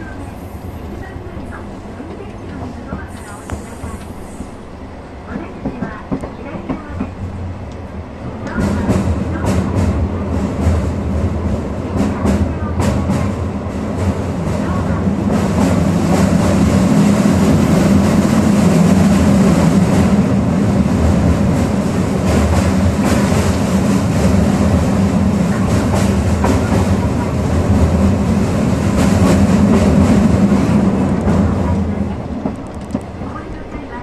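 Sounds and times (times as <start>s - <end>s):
railcar engine running: 0.0s - 34.0s.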